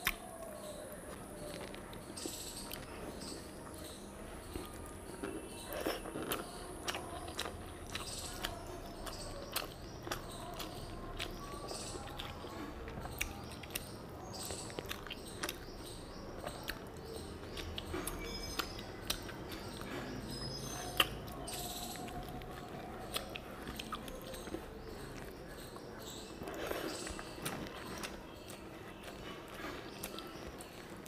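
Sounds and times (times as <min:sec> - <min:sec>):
person chewing food: 0:00.0 - 0:03.8, 0:04.4 - 0:31.0
fingers mixing rice on leaf: 0:04.4 - 0:31.0.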